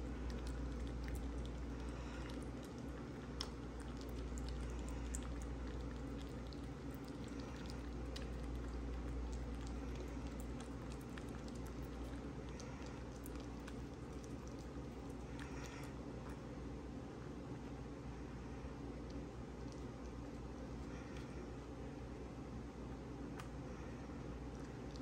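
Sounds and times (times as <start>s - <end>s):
cat licking and chewing food: 0.0s - 17.7s, 18.6s - 22.1s, 23.2s - 25.0s
steady low hum: 0.0s - 25.0s.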